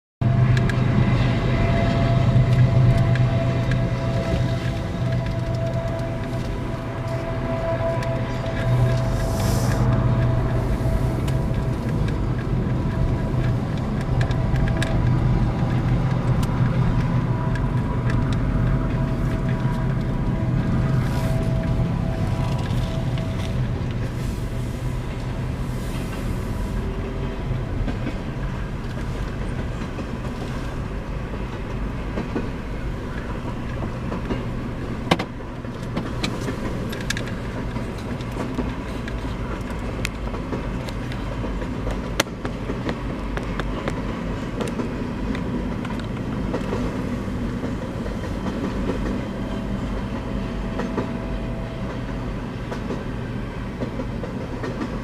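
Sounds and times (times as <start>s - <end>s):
freight train rolling past: 0.2s - 55.0s.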